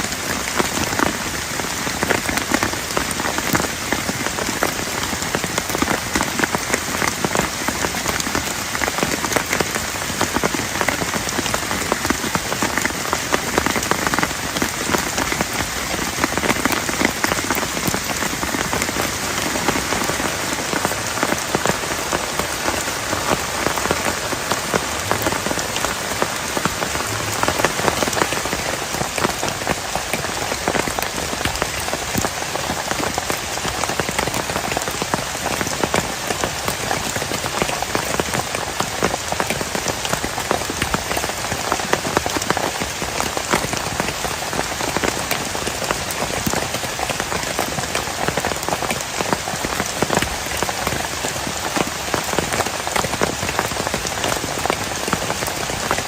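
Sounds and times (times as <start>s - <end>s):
heavy rain pattering on plastic tarp: 0.0s - 56.0s.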